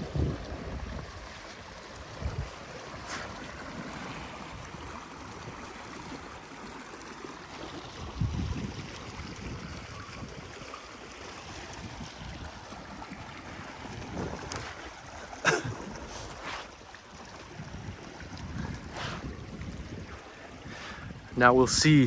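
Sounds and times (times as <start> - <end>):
water flowing through dam: 0.0 - 22.0.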